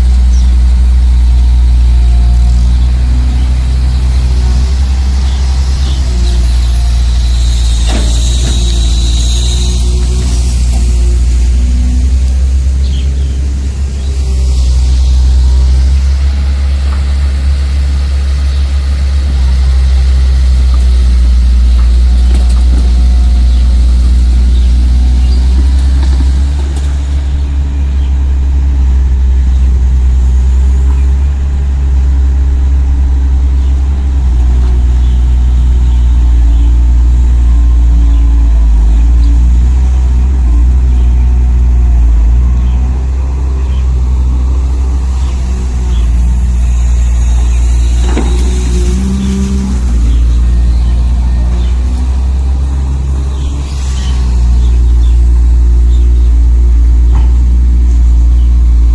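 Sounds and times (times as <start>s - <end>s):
simulated diesel engine idling: 0.0s - 58.9s.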